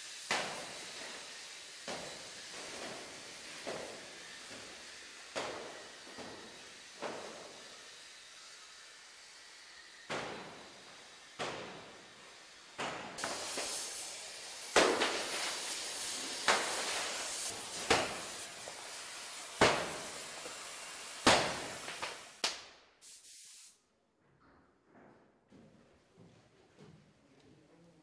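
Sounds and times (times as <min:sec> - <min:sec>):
metal cutting hiss: 0:00.0 - 0:23.8.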